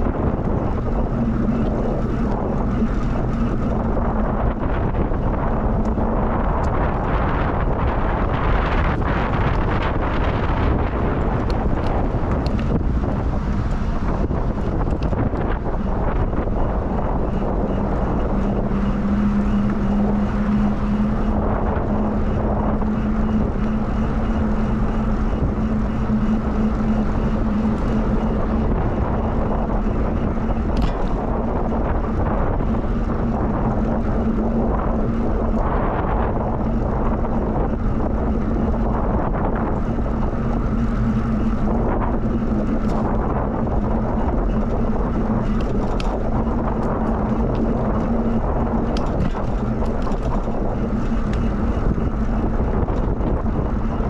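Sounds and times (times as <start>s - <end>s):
bicycle rolling noise: 0.0s - 54.0s
steady low hum: 0.0s - 54.0s
wind rumble on microphone: 0.0s - 54.0s.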